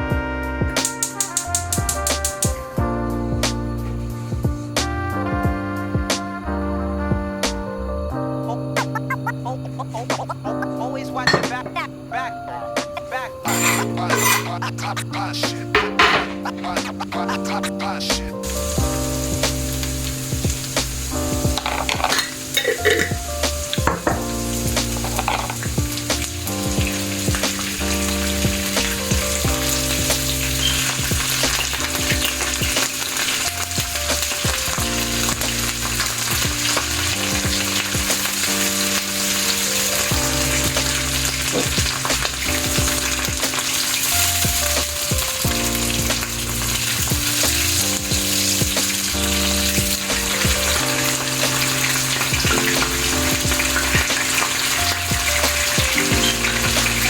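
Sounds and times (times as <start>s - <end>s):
soft background music: 0.0s - 57.0s
food sizzling in a pan: 8.6s - 57.0s.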